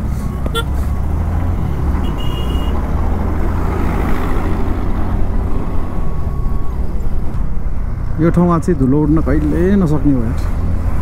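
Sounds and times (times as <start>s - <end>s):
scooter engine and road noise: 0.0s - 11.0s.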